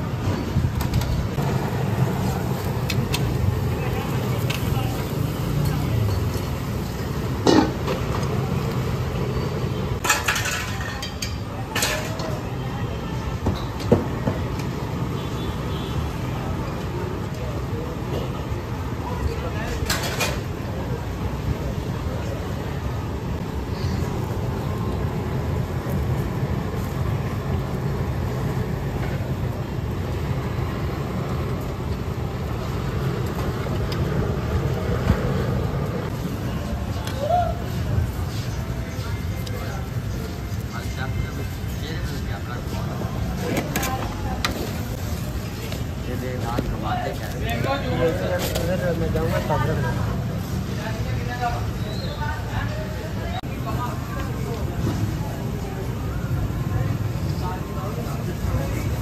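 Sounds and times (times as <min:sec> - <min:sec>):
gas burner roaring: 0:00.0 - 0:59.0
street noise hum: 0:00.0 - 0:59.0.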